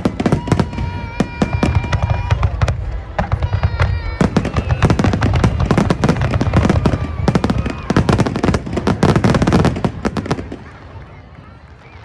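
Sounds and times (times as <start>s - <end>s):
firework whistle: 0.0s - 9.8s
fireworks bangs and crackles: 0.0s - 12.0s.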